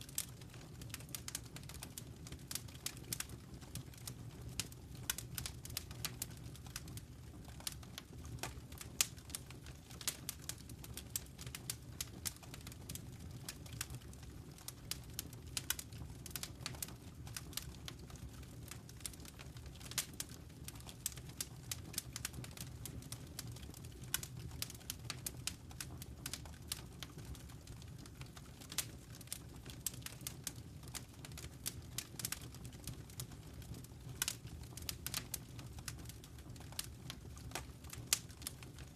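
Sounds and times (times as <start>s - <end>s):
low fire rumble: 0.0s - 38.9s
wood fire crackling: 0.0s - 38.9s.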